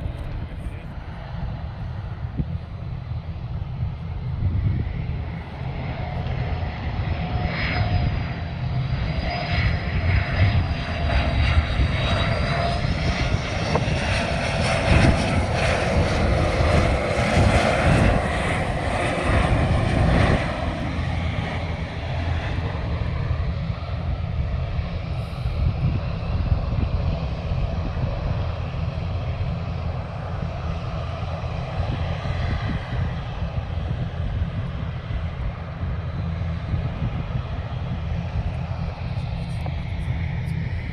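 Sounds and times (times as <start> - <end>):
jet airliner engines passing: 0.0 - 40.9.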